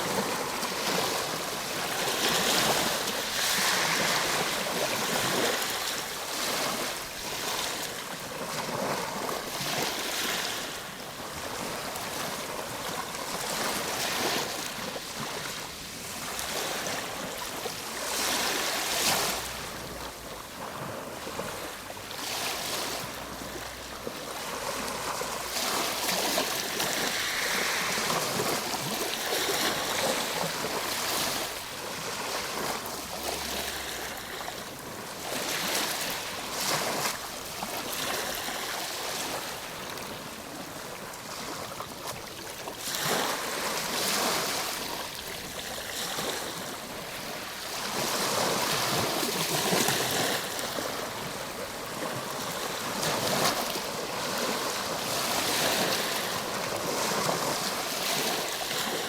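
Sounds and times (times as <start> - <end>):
ocean waves washing ashore: 0.0 - 59.0.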